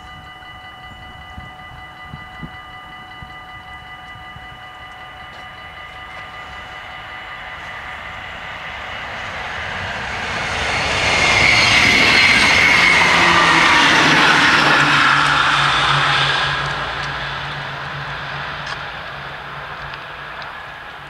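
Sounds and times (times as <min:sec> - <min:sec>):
electric train passing: 0:00.0 - 0:21.0
level-crossing bells ringing: 0:00.0 - 0:21.0.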